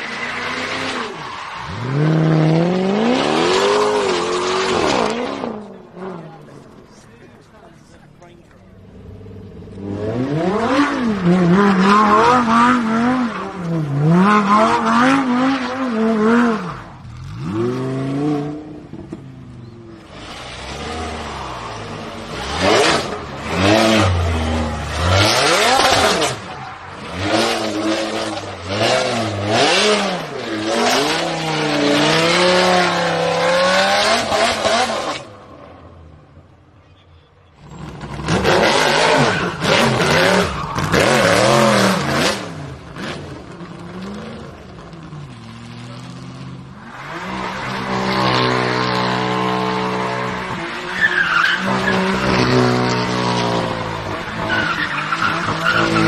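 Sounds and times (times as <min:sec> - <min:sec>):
car engines revving hard: 0:00.0 - 0:35.8, 0:37.6 - 0:56.0.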